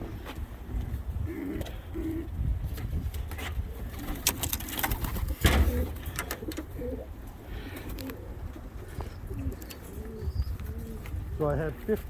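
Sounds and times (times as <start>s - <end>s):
pigeons cooing softly: 0.0s - 11.9s.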